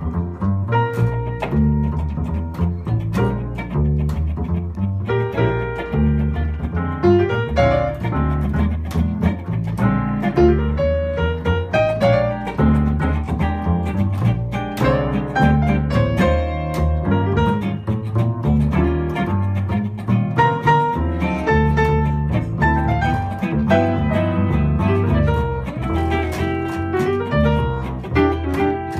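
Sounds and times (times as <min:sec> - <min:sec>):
electric guitar: 0:00.0 - 0:28.9
piano: 0:00.0 - 0:28.9
plucked double bass: 0:00.0 - 0:28.9
drum kit: 0:05.1 - 0:28.9.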